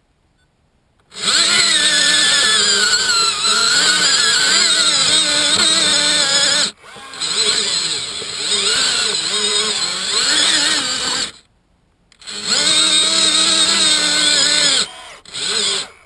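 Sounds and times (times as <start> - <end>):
electric motors whining: 1.0 - 11.5, 12.1 - 16.0.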